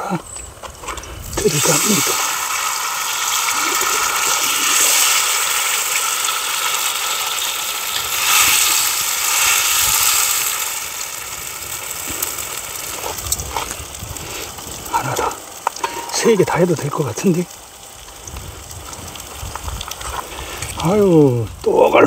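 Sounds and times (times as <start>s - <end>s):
fish sizzling in hot oil: 0.5s - 21.9s.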